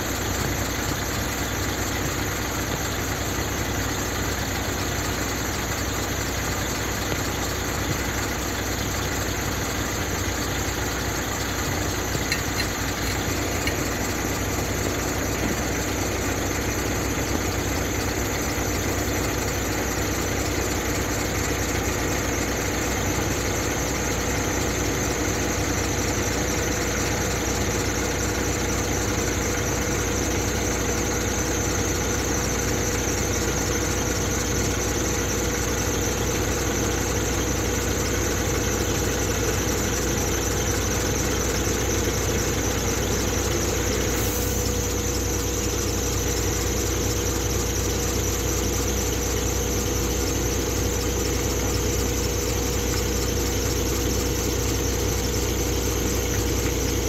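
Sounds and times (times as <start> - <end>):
diesel lorry engine running: 0.0 - 57.0
hydraulic hook-lift whine: 0.0 - 57.0.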